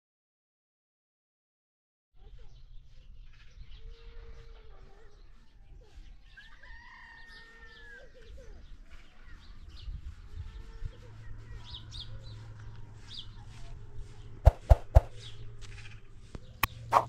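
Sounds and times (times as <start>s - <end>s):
small birds chirping: 2.2s - 17.0s.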